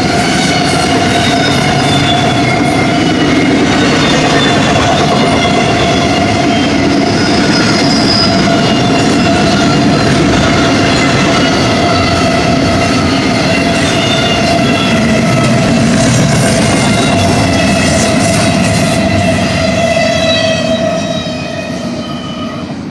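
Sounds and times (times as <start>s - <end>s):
steel wheels rumbling on rail: 0.0s - 22.9s.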